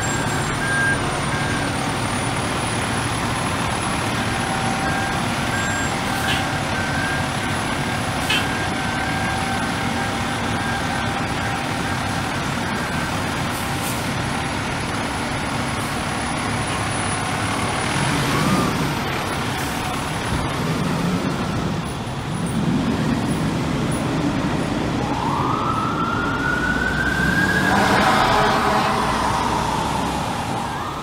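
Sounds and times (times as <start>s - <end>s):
truck engines rumbling: 0.0s - 31.0s.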